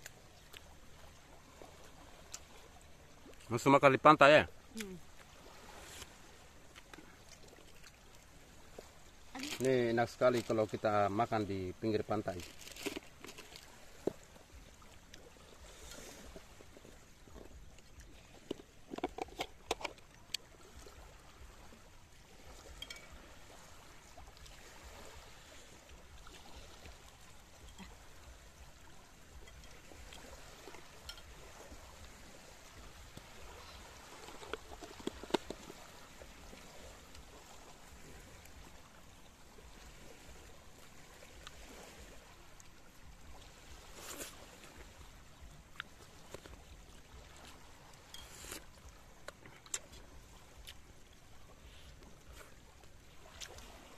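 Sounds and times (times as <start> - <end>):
sea water lapping at shore: 0.0 - 53.9.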